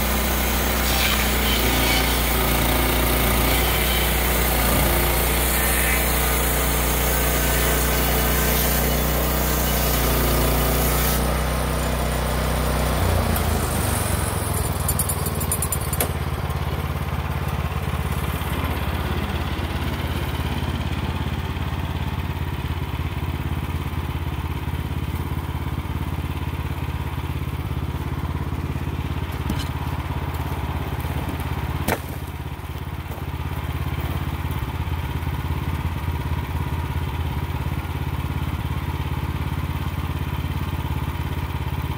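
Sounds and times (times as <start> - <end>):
band sawmill cutting log: 0.0 - 41.9.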